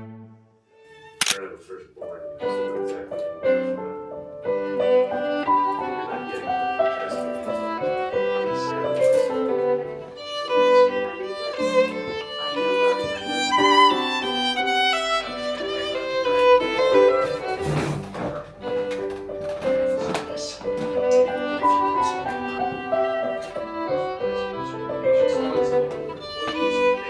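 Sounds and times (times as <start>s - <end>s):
string accompaniment: 0.0s - 27.0s
violin melody: 0.0s - 27.0s.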